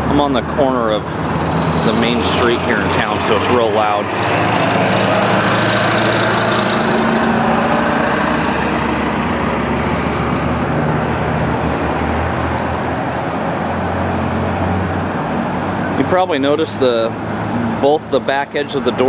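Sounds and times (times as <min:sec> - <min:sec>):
loud street traffic passing: 0:00.0 - 0:19.0.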